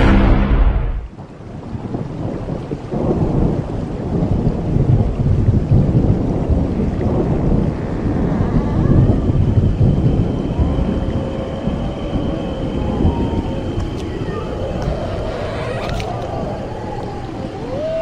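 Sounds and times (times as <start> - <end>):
thunder rolling: 0.0 - 18.0.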